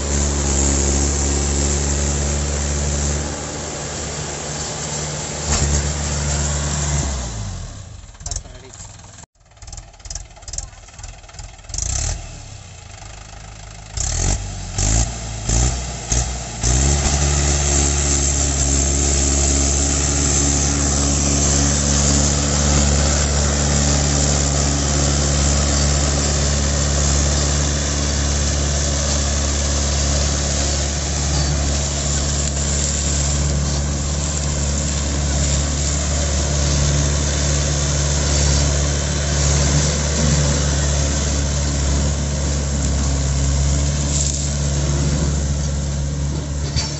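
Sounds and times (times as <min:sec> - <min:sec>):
tractor diesel engine working hard: 0:00.0 - 0:46.9.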